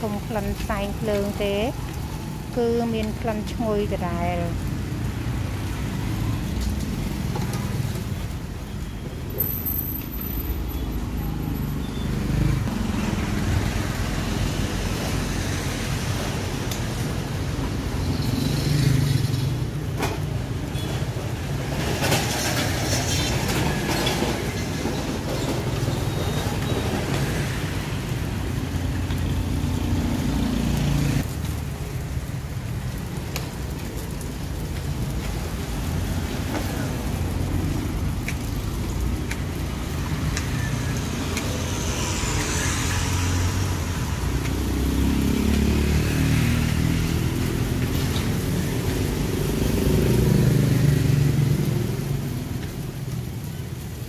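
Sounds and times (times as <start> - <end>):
vehicle engines passing by: 0.0 - 54.0.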